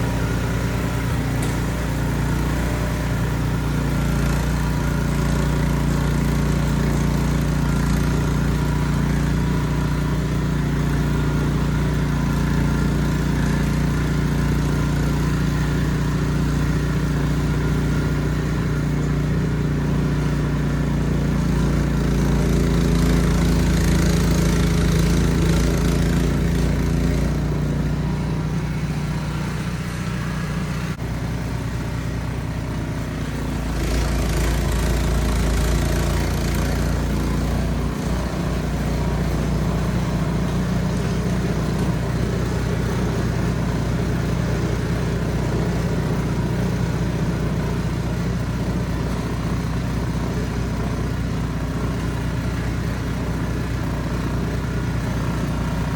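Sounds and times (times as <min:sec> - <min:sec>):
snowblower engine running: 0:00.0 - 0:55.9.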